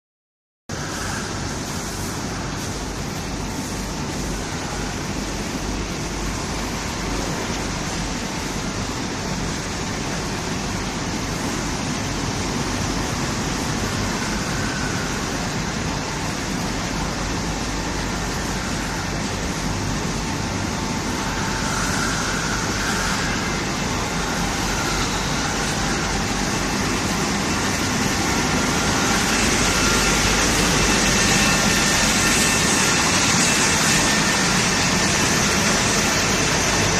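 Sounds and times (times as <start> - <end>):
industrial washer-dryer running: 0.7 - 36.9.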